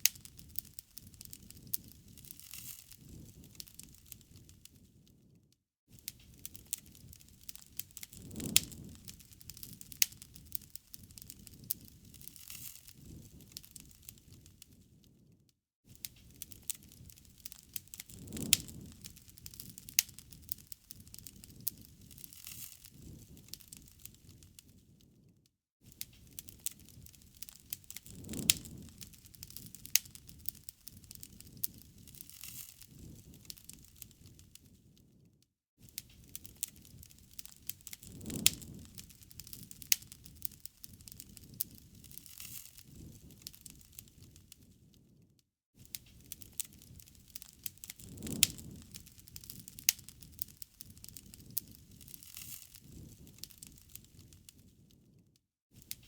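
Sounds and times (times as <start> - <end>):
wood fire crackling: 0.0 - 5.4, 6.0 - 45.2, 45.8 - 55.2
low rumble of flames: 0.0 - 55.2.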